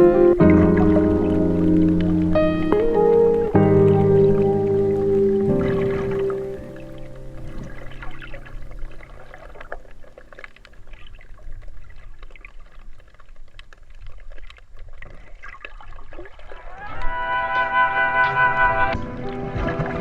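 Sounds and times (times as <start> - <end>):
underwater sloshing wash: 0.0 - 17.4, 18.9 - 20.0
small underwater clicks and crackles: 0.1 - 17.1.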